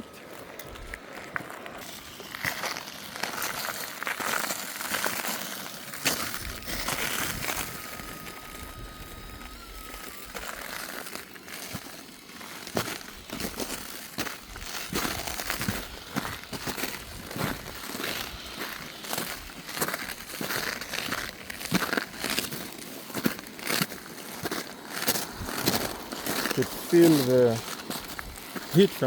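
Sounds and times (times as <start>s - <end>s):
footsteps crunching on lava crust: 0.0s - 29.0s.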